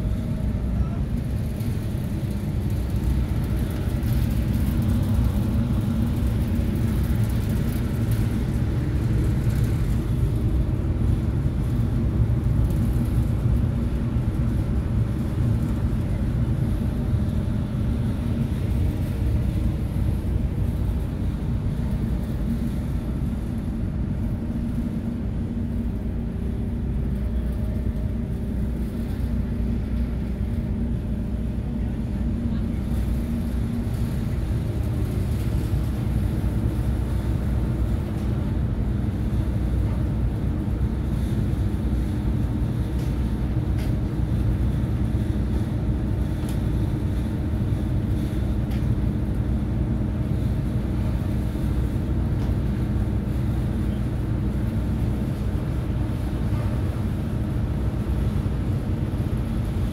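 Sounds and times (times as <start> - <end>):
ship engines droning: 0.0 - 59.9.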